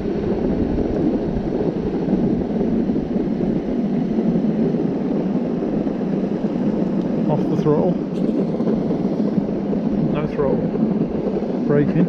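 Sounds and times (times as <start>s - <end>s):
skateboard wheels rolling on asphalt: 0.0s - 12.0s
wind on microphone: 0.0s - 12.0s.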